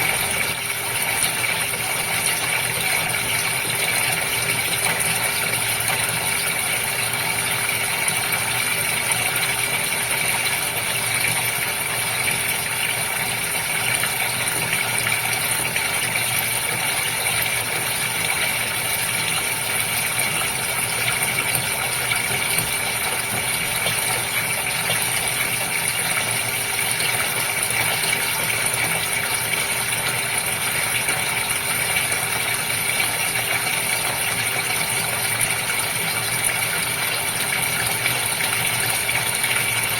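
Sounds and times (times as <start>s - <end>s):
pump humming and rattling: 0.0s - 39.9s
running water from aquarium filter: 0.0s - 39.9s.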